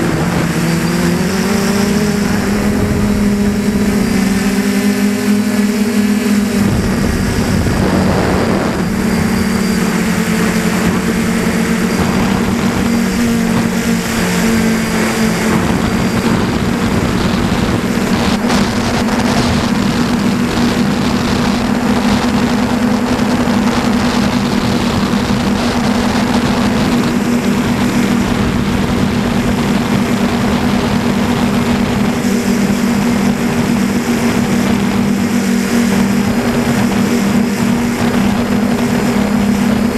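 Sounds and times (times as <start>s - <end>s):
drone motors humming: 0.0s - 39.9s
wind and propeller wash: 0.0s - 39.9s.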